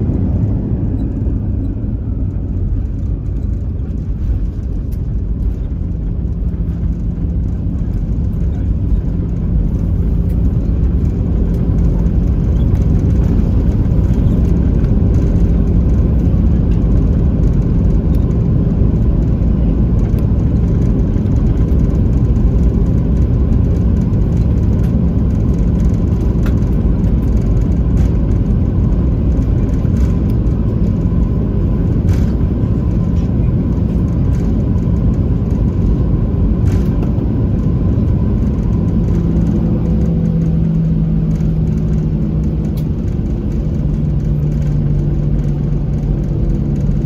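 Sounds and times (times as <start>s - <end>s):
aircraft engines and wheels rumbling: 0.0s - 47.0s
steady hum: 0.0s - 47.0s.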